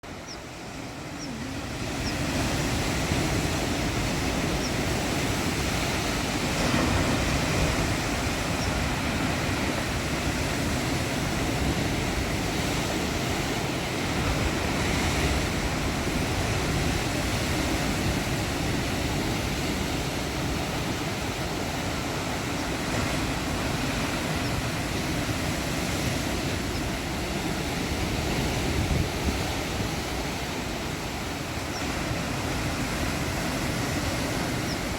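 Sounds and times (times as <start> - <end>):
waves breaking on rocky shore: 0.0 - 34.9.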